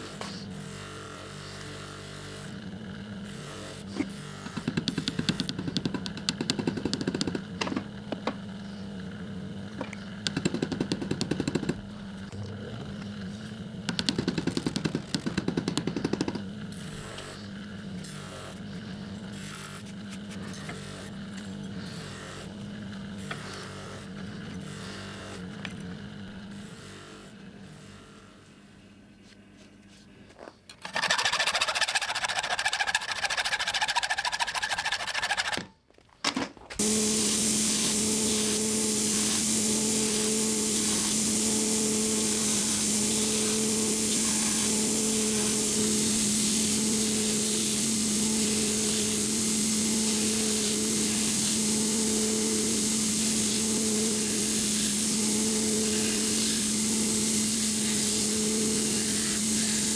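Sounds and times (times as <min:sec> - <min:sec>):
small motor tool humming: 0:00.0 - 0:35.6, 0:36.8 - 0:59.9.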